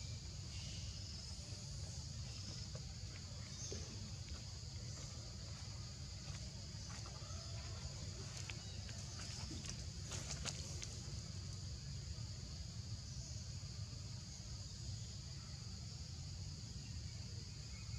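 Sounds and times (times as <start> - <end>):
high-pitched insect chorus: 0.0 - 17.9.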